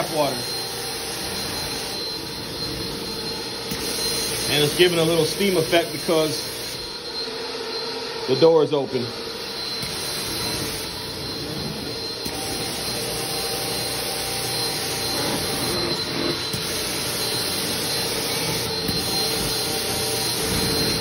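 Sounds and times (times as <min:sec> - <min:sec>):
carpet extractor vacuum whine: 0:00.0 - 0:21.0.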